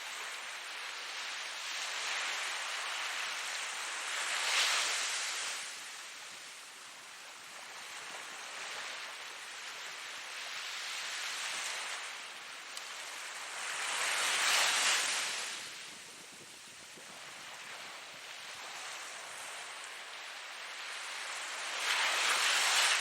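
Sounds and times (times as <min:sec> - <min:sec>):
ocean surf waves: 0:00.0 - 0:23.0.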